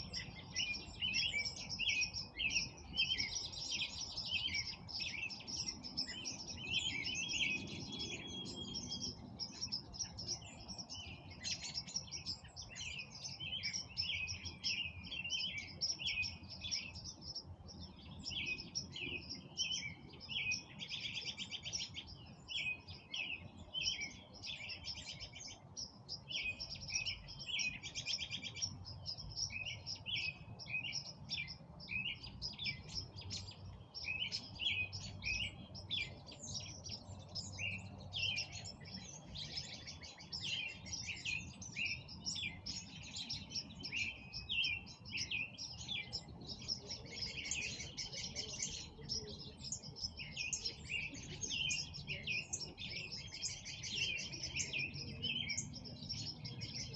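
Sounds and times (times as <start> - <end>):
songbirds chirping and singing: 0.0 - 56.9.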